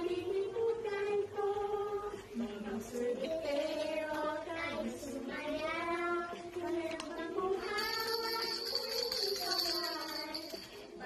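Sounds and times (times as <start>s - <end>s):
girl singing: 0.0s - 10.8s.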